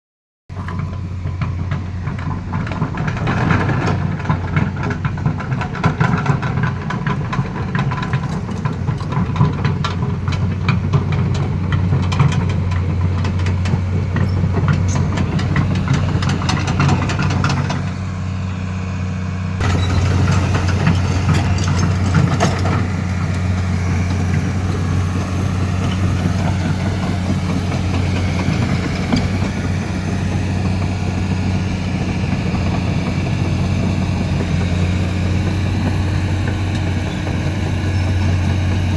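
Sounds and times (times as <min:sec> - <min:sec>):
knocks and clatters: 0:00.5 - 0:18.1, 0:19.6 - 0:38.9
excavator diesel engine droning: 0:00.5 - 0:38.9.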